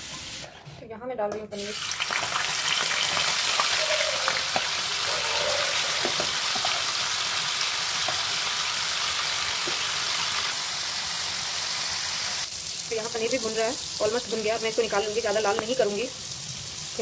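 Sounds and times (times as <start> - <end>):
cheese sizzling in hot oil: 1.6 - 17.0.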